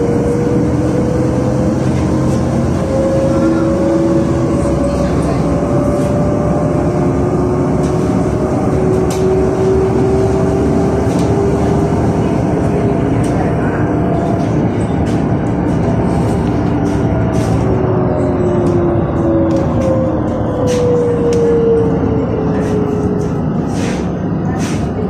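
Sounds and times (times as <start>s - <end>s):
bus engine whine: 0.0s - 25.0s.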